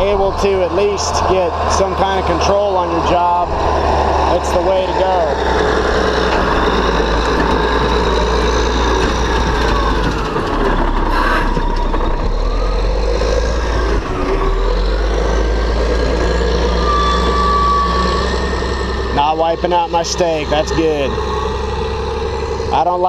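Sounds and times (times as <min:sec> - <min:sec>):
diesel engine running loud: 0:00.0 - 0:23.0.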